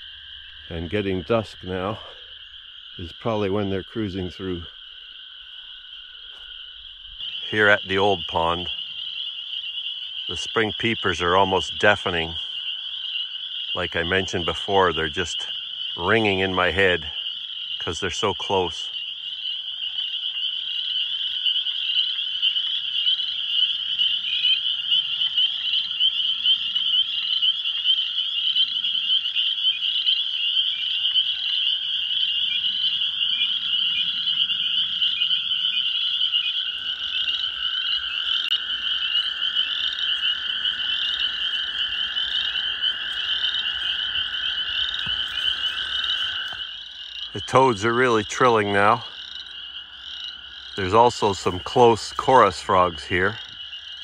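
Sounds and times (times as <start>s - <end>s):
chorus of spring peepers: 0.0s - 54.0s
toads trilling: 0.0s - 54.0s.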